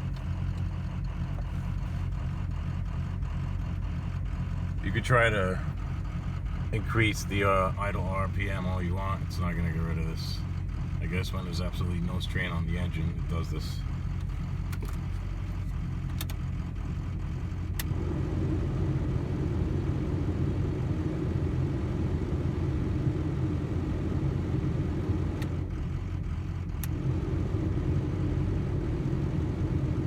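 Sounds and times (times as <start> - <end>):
diesel engine loping idle: 0.0 - 30.0.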